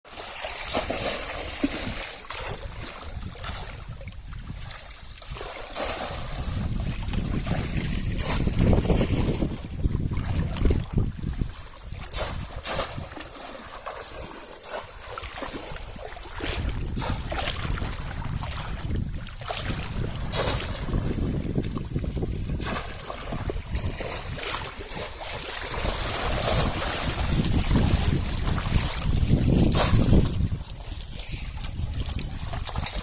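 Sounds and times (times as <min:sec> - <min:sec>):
wind buffeting microphone: 0:00.9 - 0:13.4, 0:14.2 - 0:33.0.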